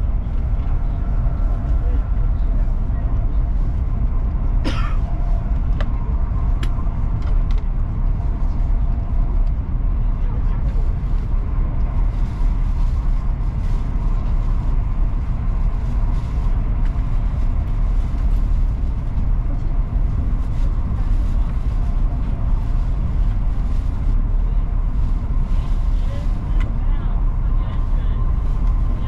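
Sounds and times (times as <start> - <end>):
train cabin rumble: 0.0 - 29.0.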